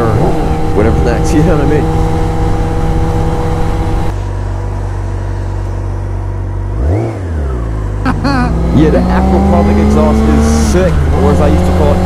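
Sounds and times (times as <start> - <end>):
motorcycle engine drone: 0.0 - 12.0.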